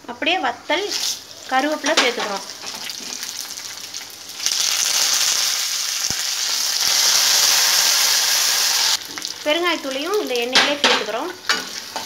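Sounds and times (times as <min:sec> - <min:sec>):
leaves sizzling in hot oil: 0:00.7 - 0:12.0.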